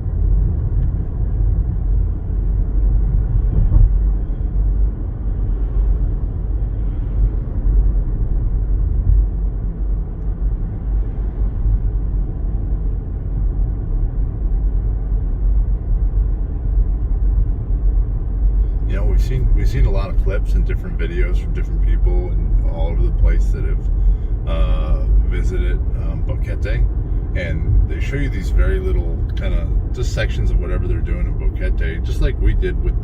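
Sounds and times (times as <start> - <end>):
car engine and road noise: 0.0 - 33.0.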